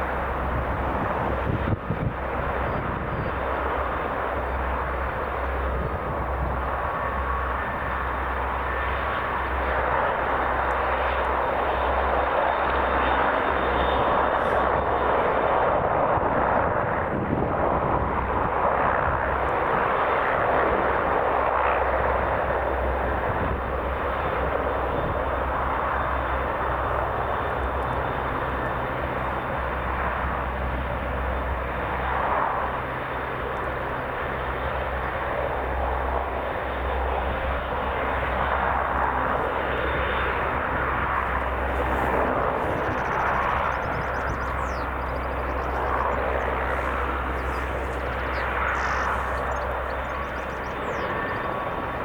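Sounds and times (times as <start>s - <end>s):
helicopter turbine and rotor noise: 0.0s - 52.0s.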